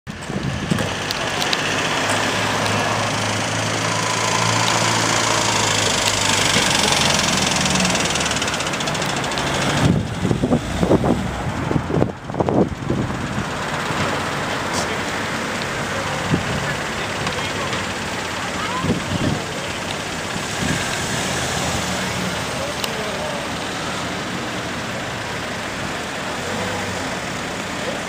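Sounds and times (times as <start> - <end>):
road noise: 0.0 - 28.0
vehicle engine humming: 0.1 - 28.0.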